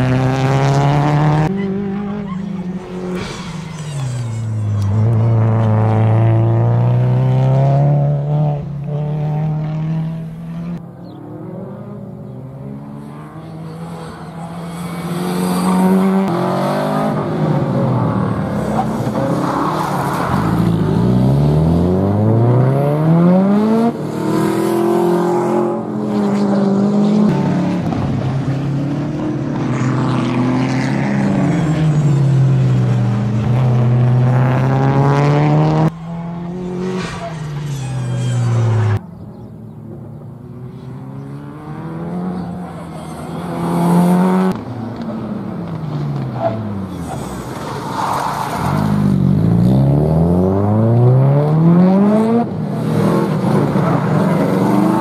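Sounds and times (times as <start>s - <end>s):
rally car engine revving: 0.0s - 39.5s, 40.8s - 55.0s.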